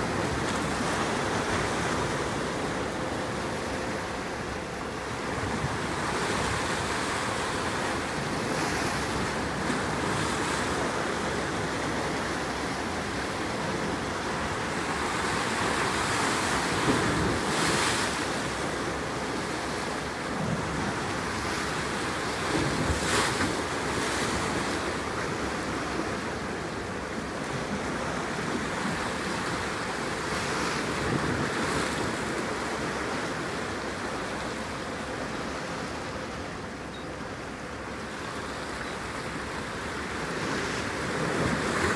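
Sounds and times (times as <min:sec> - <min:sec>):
choppy sea water: 0:00.0 - 0:41.9.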